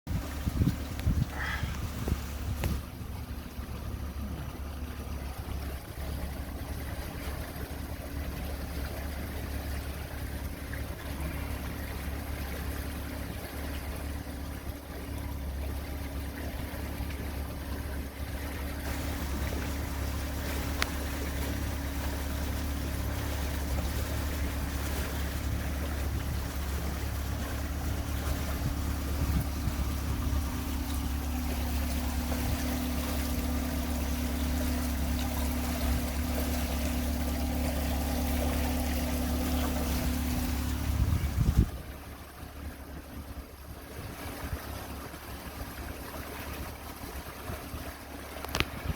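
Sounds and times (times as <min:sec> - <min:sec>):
boat engine rumbling: 0:00.0 - 0:48.9
wind: 0:00.0 - 0:48.9
water noise: 0:00.1 - 0:48.9.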